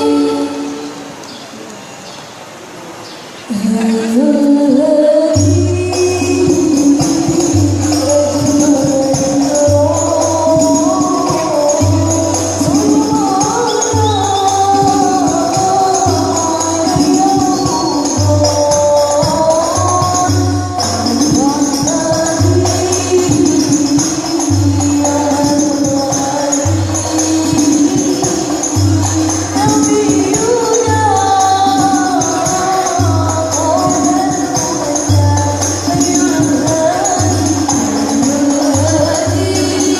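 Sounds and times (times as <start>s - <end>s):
frame drums beating: 5.4s - 39.9s.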